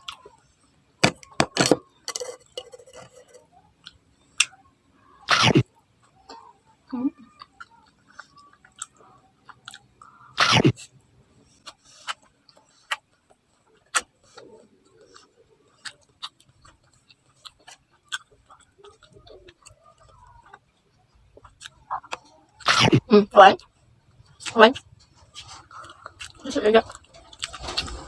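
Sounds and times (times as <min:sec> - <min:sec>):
person chewing food: 0:01.2 - 0:23.0, 0:23.6 - 0:28.0.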